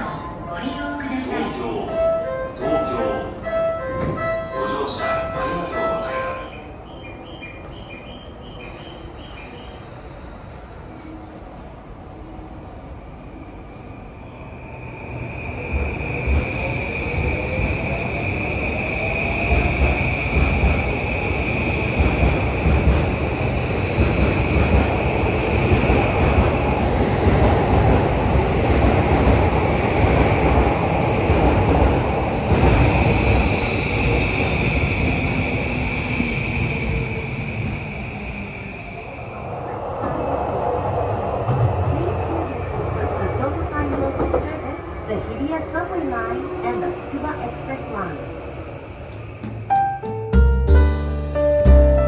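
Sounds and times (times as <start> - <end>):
train wheel and rail rumble: 0.0 - 50.3.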